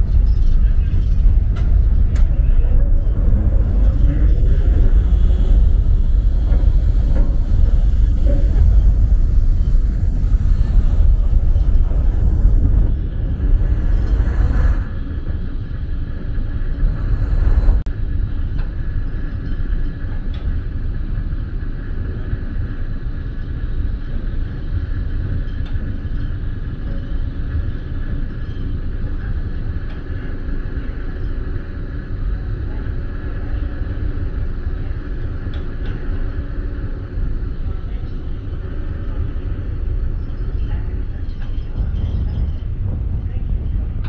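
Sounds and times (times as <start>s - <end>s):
ship engine rumble: 0.0s - 19.0s, 21.0s - 44.0s
wind over deck: 0.0s - 44.0s.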